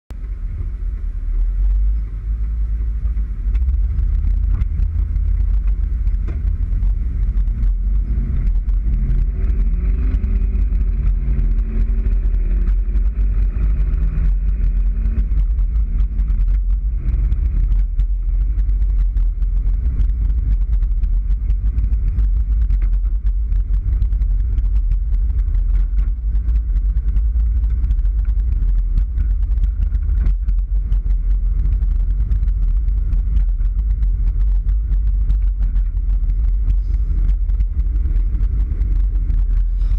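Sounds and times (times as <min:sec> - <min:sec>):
truck exhaust rumble accelerating: 0:00.1 - 0:39.9.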